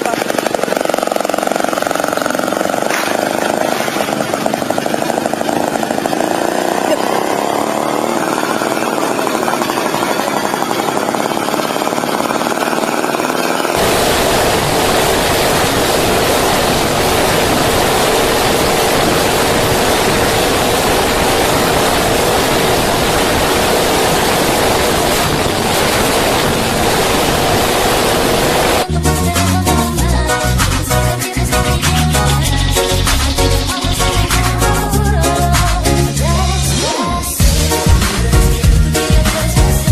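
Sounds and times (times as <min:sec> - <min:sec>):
motorcycle engines running rough: 0:00.0 - 0:36.7, 0:37.3 - 0:39.9
harsh engine drone: 0:00.0 - 0:39.9.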